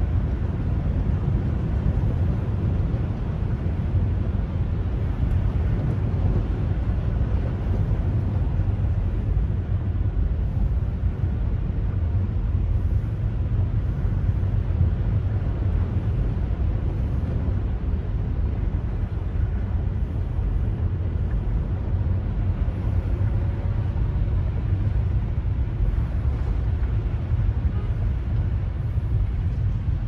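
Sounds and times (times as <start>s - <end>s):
car driving through floodwater: 0.0s - 30.0s.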